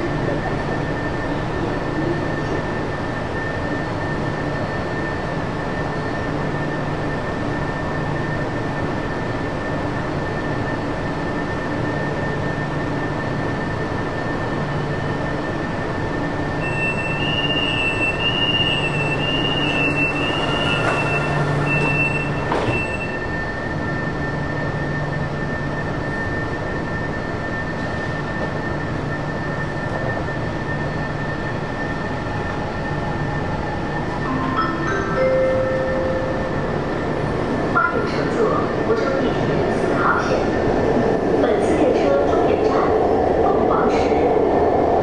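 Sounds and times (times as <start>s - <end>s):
constant high whine: 0.0s - 45.0s.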